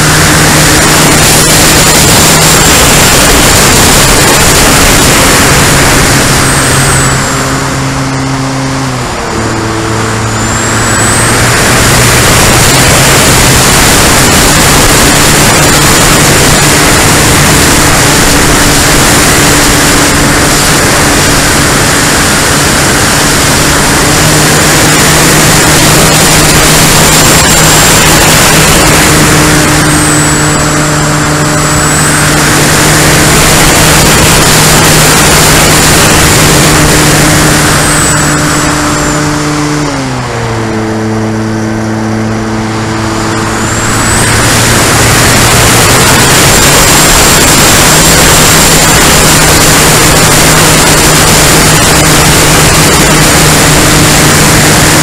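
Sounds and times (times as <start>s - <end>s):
propeller and motor droning: 0.0s - 55.0s
wind rush: 0.0s - 55.0s.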